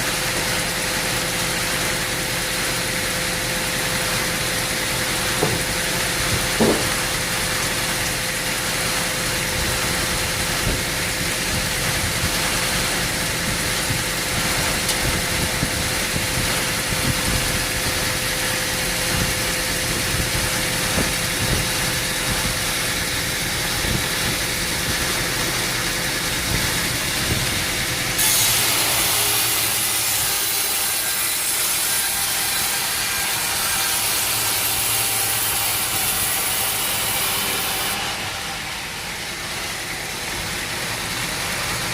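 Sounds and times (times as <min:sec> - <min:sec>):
mill engine running: 0:00.0 - 0:41.9
sawmill saw cutting log: 0:00.0 - 0:41.9.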